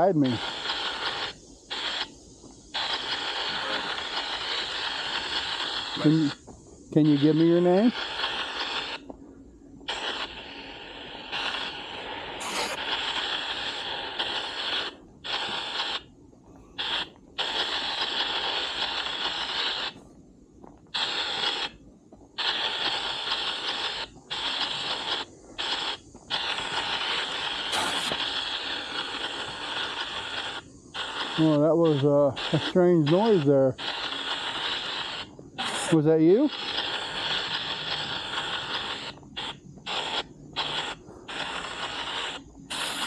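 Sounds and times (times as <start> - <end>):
chopped static bursts from phone: 0.0 - 43.0.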